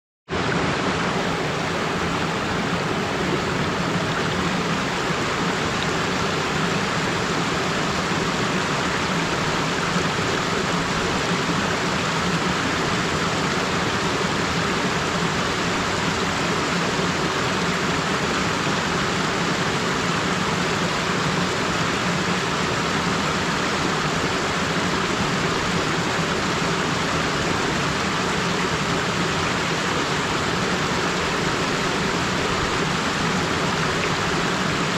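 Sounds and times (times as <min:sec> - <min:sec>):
stream flowing over rocks: 0:00.3 - 0:34.9.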